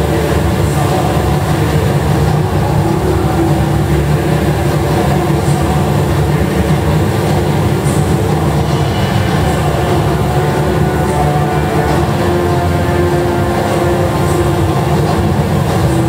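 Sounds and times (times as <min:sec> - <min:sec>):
low steady tones: 0:00.0 - 0:16.0.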